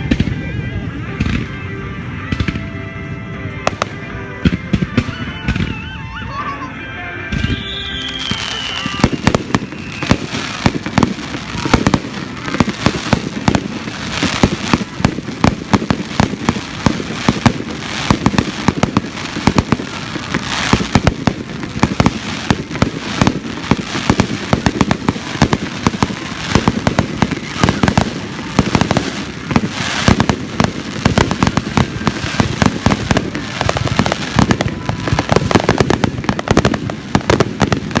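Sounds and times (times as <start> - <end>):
fireworks bangs and crackles: 0.0 - 6.5, 7.2 - 38.0.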